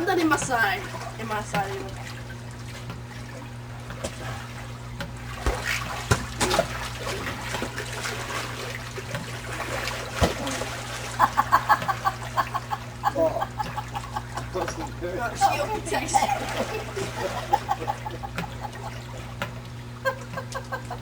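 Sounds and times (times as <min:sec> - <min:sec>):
pool water splashing: 0:00.0 - 0:21.0.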